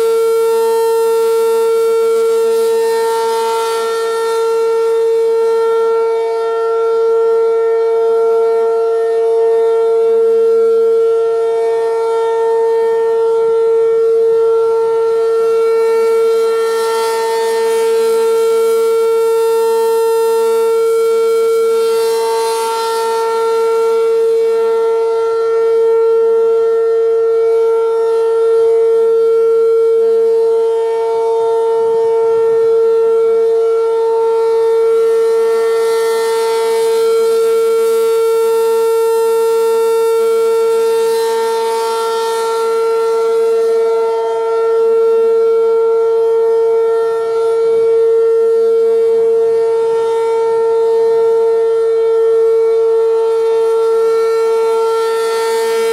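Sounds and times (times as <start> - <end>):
rotating warning siren: 0.0 - 55.9.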